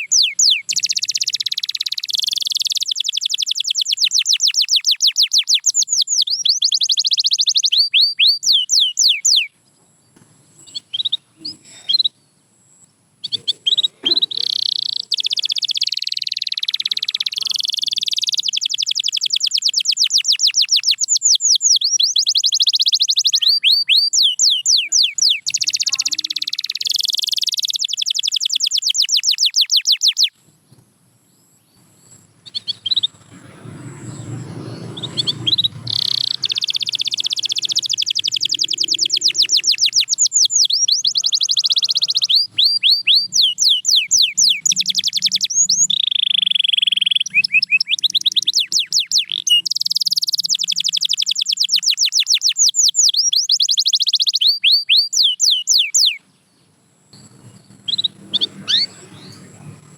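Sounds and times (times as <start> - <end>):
canary trilling: 0.0 - 9.5, 13.2 - 30.3, 32.1 - 56.2, 57.2 - 59.9.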